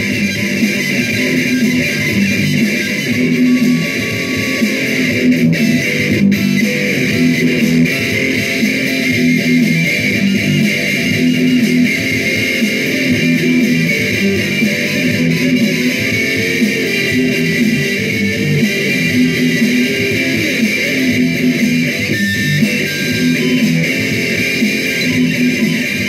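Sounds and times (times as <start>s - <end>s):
metal electric guitar: 0.0s - 26.0s.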